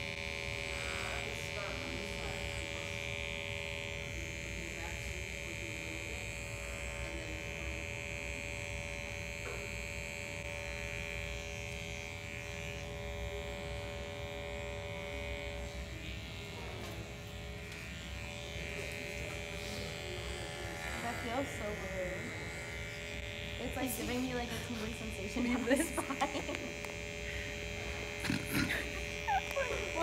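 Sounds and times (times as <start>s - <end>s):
electric hair clippers buzzing: 0.0s - 30.0s.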